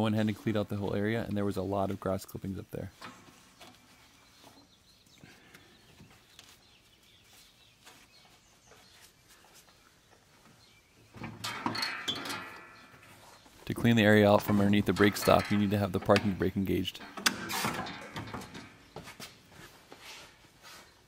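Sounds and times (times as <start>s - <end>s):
rustling and scratching: 0.0s - 21.0s.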